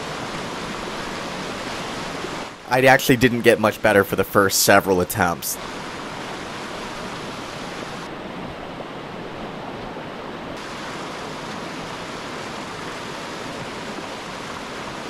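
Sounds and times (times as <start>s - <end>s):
whitewater rushing through rapid: 0.0s - 8.1s, 10.6s - 15.0s.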